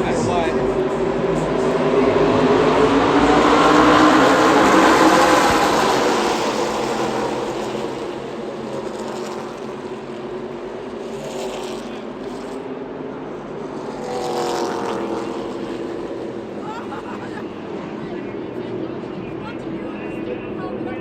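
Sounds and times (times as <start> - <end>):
race cars passing: 0.0 - 21.0.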